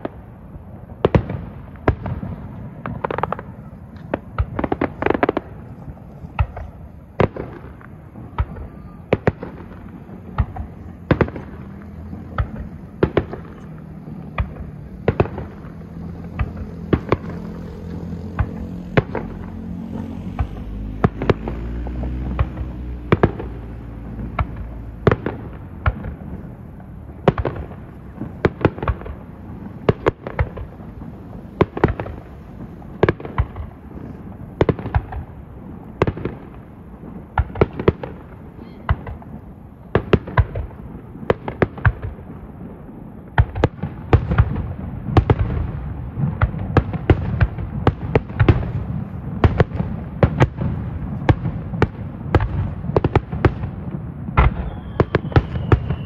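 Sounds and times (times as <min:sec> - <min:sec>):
firework bangs: 0:00.0 - 0:56.0.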